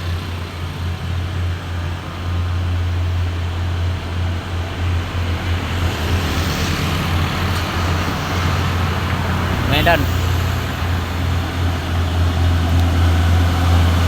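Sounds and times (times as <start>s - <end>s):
diesel truck engine droning: 0.0s - 14.0s
road noise: 0.0s - 14.0s.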